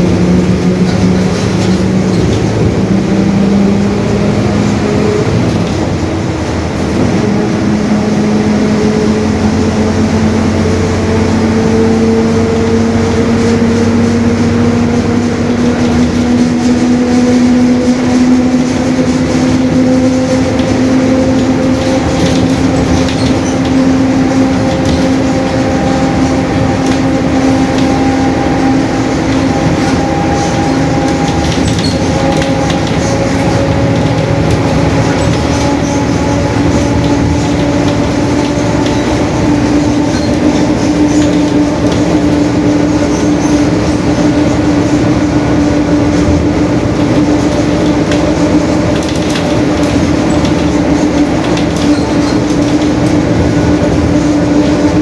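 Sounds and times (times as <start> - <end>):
droning gear whine: 0.0 - 48.9
bus engine and road noise: 0.0 - 55.0.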